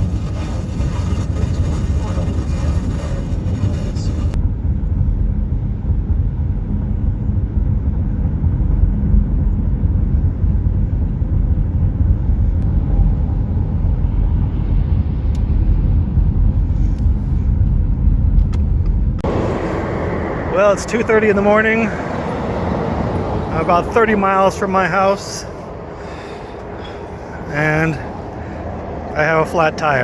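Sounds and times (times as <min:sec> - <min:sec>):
car cabin road and engine rumble: 0:00.0 - 0:30.0.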